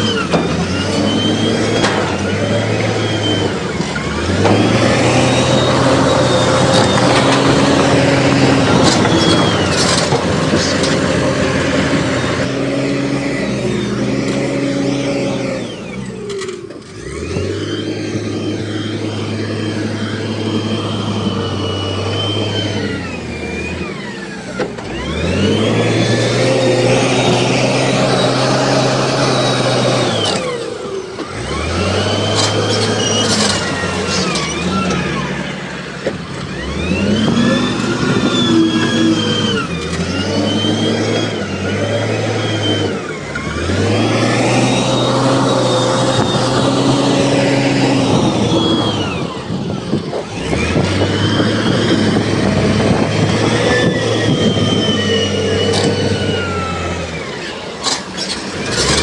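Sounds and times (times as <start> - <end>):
heavy machine engine revving: 0.0 - 59.0.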